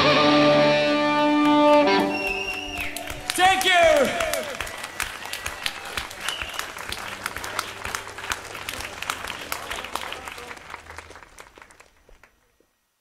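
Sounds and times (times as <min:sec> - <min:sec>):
audience applauding: 0:01.2 - 0:12.7.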